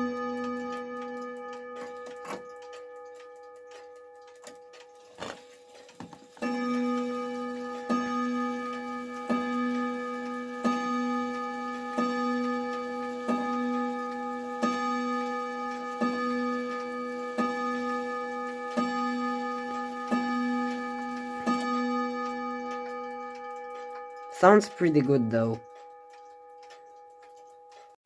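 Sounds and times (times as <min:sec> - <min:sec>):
wall clock chime striking: 0:00.0 - 0:28.0.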